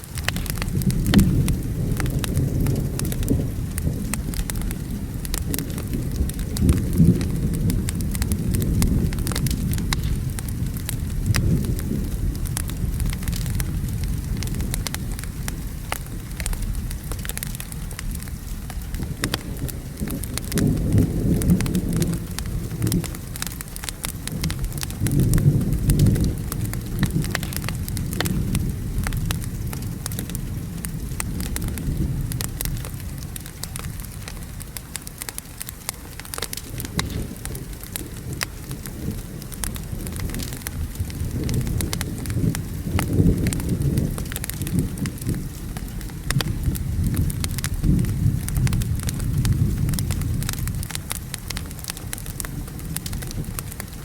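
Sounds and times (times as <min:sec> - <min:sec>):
crackling fire pops: 0:00.0 - 0:54.0
steady rain: 0:00.0 - 0:54.0
rolling thunder: 0:00.2 - 0:34.6, 0:36.2 - 0:54.0.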